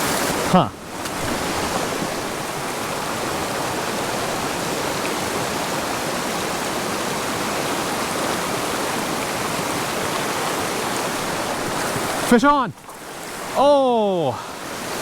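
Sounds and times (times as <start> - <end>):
rushing creek water: 0.0 - 15.0.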